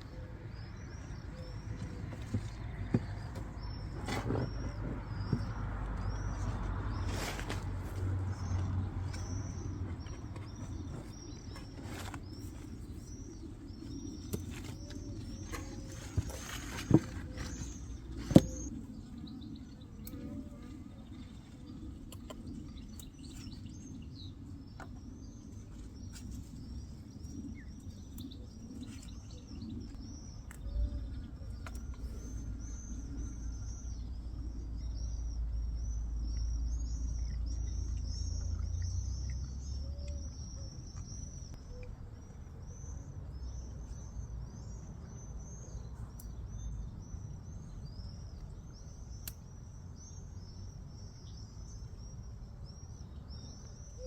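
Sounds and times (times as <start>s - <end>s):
low outdoor rumble: 0.0s - 54.0s
small birds chirping: 0.0s - 54.0s.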